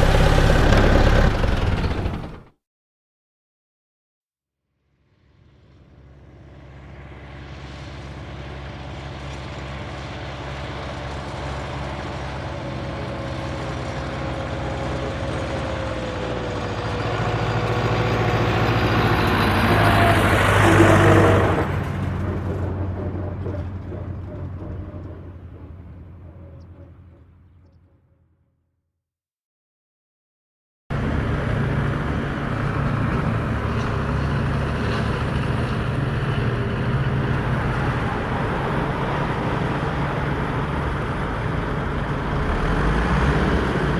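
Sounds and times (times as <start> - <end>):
tractor engine driving past: 0.0 - 2.5, 5.7 - 28.3, 30.9 - 43.9.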